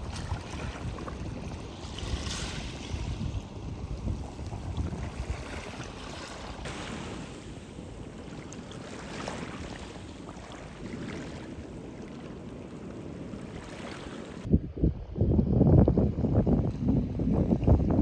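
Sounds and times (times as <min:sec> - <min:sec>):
surf-like wash: 0:00.0 - 0:14.5
wind rushing over microphone: 0:00.0 - 0:18.0.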